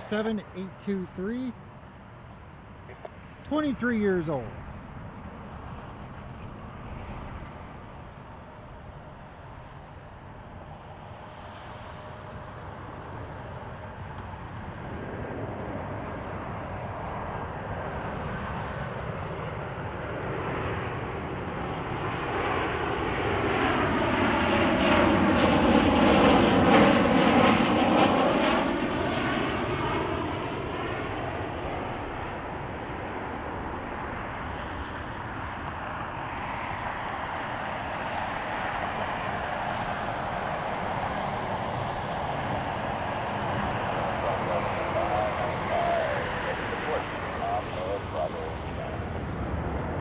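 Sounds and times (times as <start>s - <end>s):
jet plane passing: 0.0s - 50.0s.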